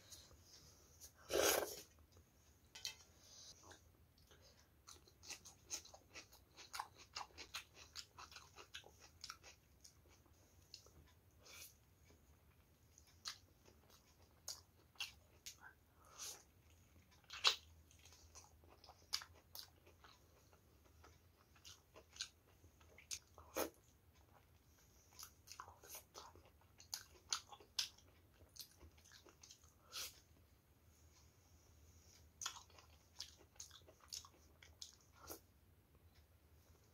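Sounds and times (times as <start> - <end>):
person chewing meat: 3.7 - 30.4, 32.1 - 35.4.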